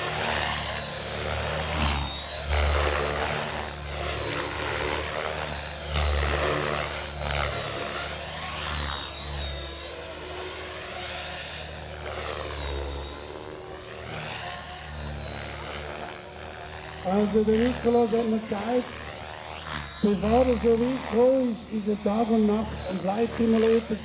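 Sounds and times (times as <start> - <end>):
model helicopter drive whine: 0.0 - 24.0.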